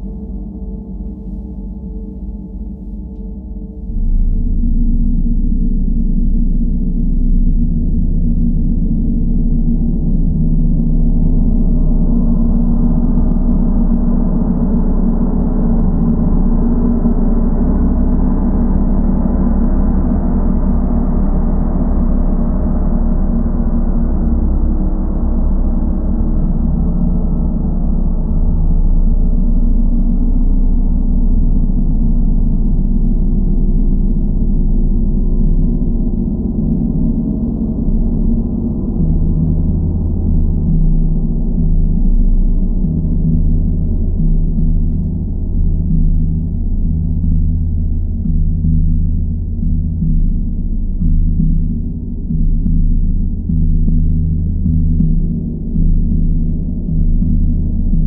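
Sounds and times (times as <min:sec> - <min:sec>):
gong played continuously: 0:00.0 - 0:58.0
low hum: 0:00.0 - 0:58.0.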